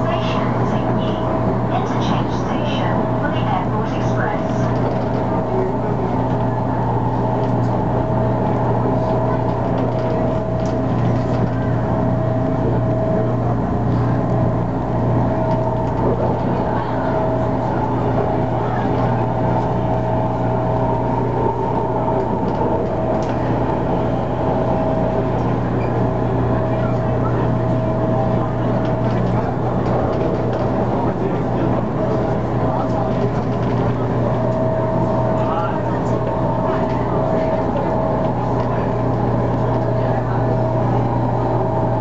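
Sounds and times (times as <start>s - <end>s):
electrical equipment hum: 0.0s - 42.0s
train wheels rumbling on rail: 0.0s - 42.0s.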